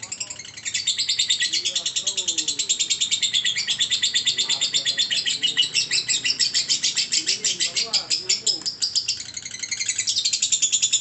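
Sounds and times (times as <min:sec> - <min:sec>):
lovebird chattering: 0:00.0 - 0:11.0.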